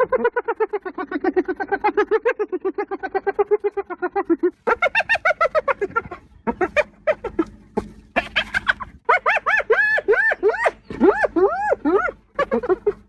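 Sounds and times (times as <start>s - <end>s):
hyena giggling: 0.0s - 13.0s.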